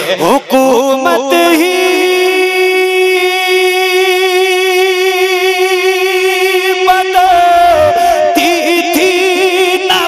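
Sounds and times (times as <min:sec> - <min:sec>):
person singing a long note: 0:01.2 - 0:10.0.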